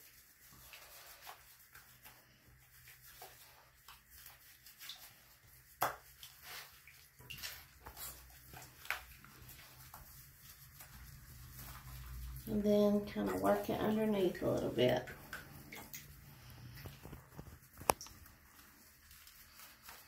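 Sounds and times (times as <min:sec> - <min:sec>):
wet squishing and rubbing of fur: 0:00.0 - 0:20.0.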